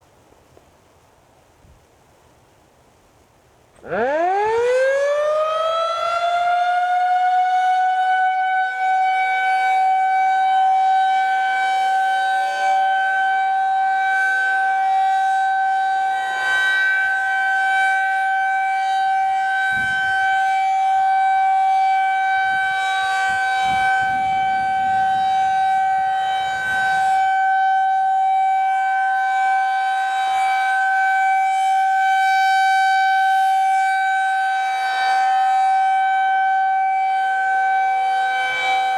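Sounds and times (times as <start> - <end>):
outdoor warning siren: 3.8 - 38.9.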